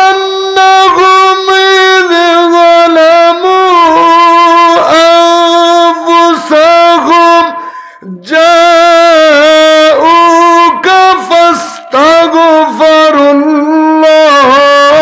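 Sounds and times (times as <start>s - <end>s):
man chanting through a microphone: 0.0s - 15.0s.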